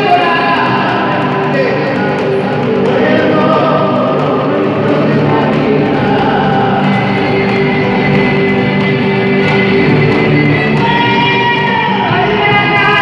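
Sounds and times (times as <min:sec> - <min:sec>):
strummed acoustic guitar: 0:00.0 - 0:13.0
violin: 0:00.0 - 0:13.0
voices singing: 0:00.0 - 0:13.0.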